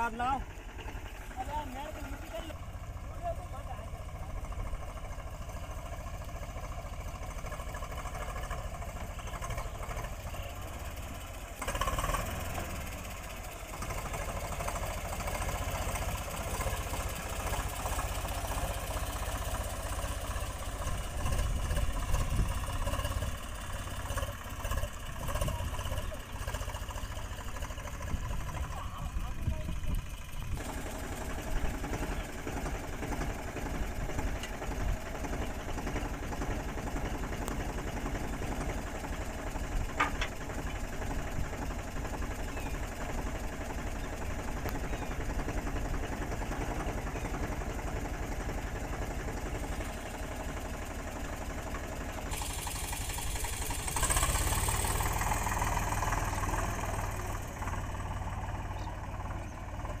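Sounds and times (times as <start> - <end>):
tractor diesel engine idling: 0.0 - 60.0.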